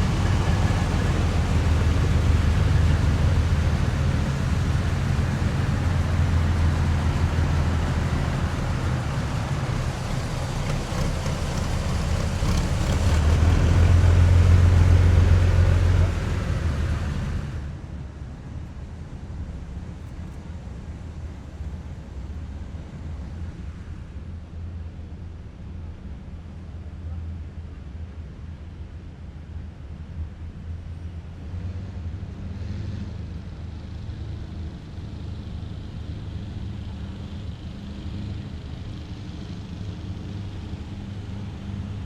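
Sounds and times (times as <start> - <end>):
road noise: 0.0 - 28.8, 29.5 - 42.0
military vehicles engine rumble: 0.0 - 42.0.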